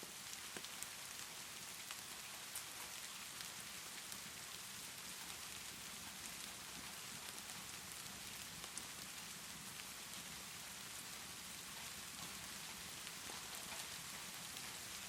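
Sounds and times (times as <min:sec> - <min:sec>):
fireplace crackling: 0:00.0 - 0:15.0
steady rainfall: 0:00.0 - 0:15.0.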